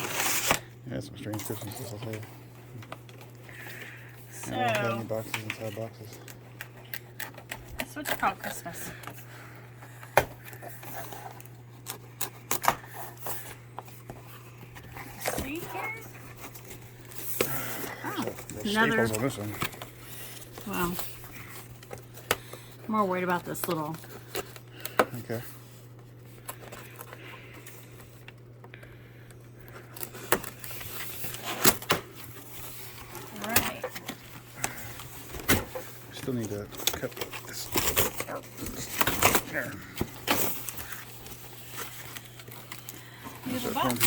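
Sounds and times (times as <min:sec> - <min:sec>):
packaging rustling: 0:00.0 - 0:28.6, 0:29.6 - 0:44.0.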